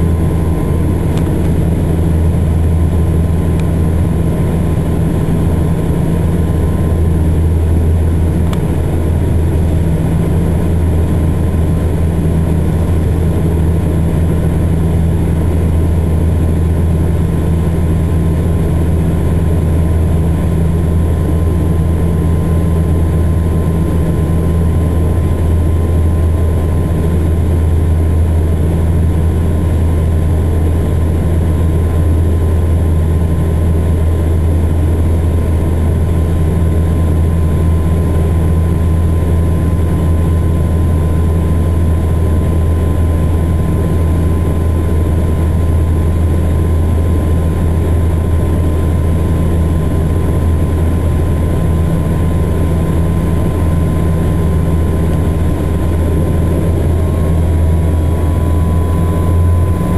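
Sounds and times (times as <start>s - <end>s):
propeller drone: 0.0s - 59.9s.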